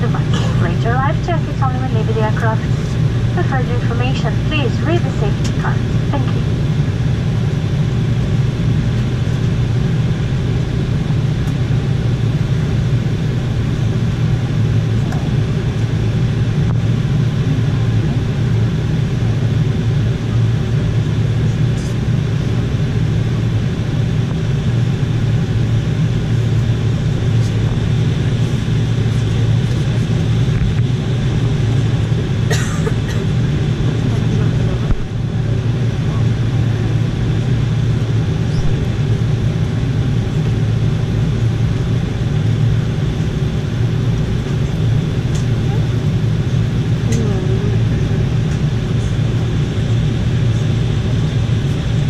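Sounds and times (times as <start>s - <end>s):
low rumble of jet engines: 0.0s - 52.0s.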